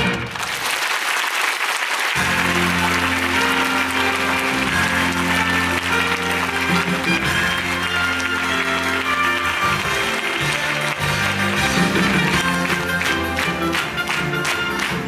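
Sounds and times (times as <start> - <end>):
audience applauding: 0.0 - 15.0
theatre show music: 0.0 - 15.0.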